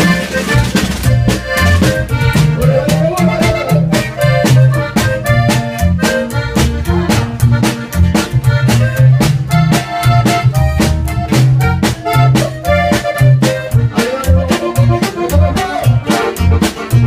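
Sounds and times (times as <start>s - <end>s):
button accordion melody: 0.0s - 17.0s
driving beat: 0.0s - 17.0s
upright bass line: 0.0s - 17.0s.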